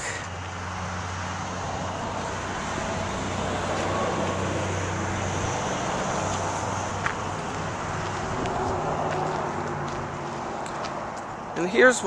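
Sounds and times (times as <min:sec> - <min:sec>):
road traffic noise: 0:00.0 - 0:12.0
vehicle engine idling: 0:00.0 - 0:12.0.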